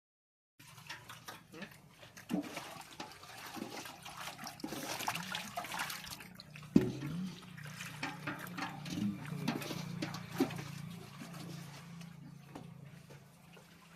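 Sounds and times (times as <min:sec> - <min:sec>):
water splashing and running: 0:00.6 - 0:13.9.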